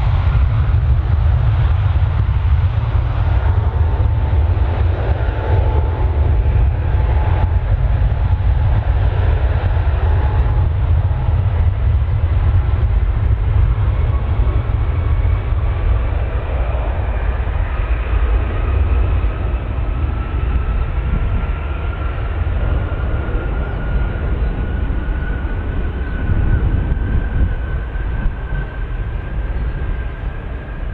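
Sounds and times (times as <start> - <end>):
jet engines roaring: 0.0 - 30.9
turbine whine: 0.0 - 30.9.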